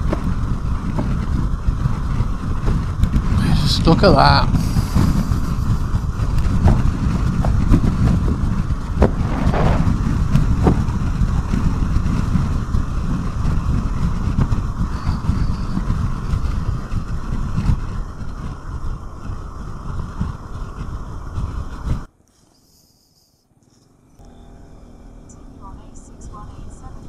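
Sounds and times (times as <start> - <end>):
scooter engine running: 0.0 - 22.1, 24.1 - 27.0
wind buffeting microphone: 0.0 - 22.1
road noise: 0.0 - 22.6, 23.4 - 27.0.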